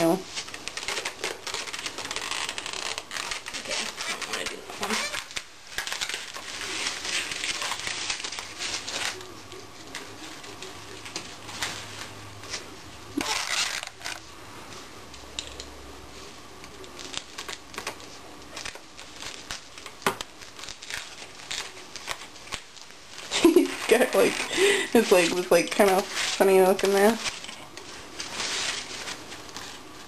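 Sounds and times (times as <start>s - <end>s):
satin fabric rustling: 0.0s - 15.3s, 16.0s - 30.0s.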